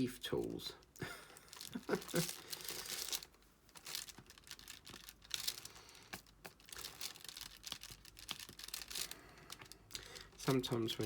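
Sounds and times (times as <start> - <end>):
plastic crinkling: 0.4 - 11.0.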